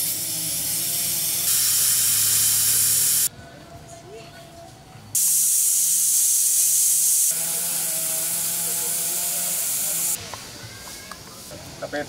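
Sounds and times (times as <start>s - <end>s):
loud steady hiss: 0.0s - 3.3s, 5.2s - 12.0s.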